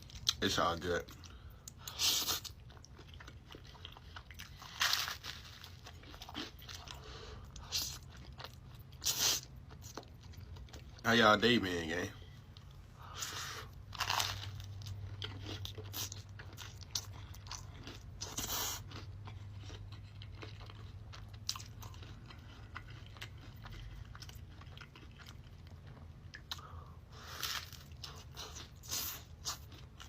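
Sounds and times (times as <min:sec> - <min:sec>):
person chewing crunchy food: 0:00.0 - 0:11.0, 0:12.2 - 0:30.0
low steady hum: 0:00.0 - 0:30.0.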